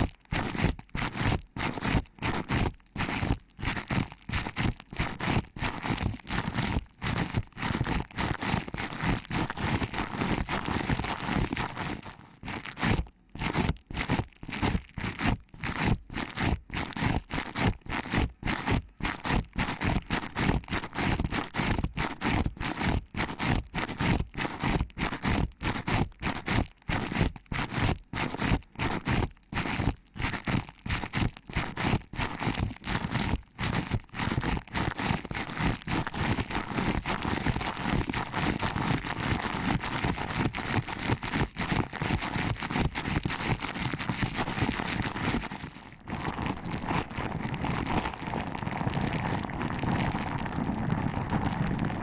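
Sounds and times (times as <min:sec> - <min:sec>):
fingers rubbing microphone: 0:00.0 - 0:52.0.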